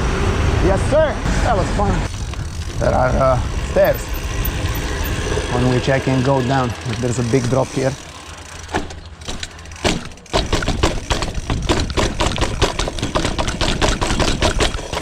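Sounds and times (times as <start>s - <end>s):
rumble of wind and tyres: 0.0s - 15.0s
bike frame and chain rattling: 2.0s - 15.0s.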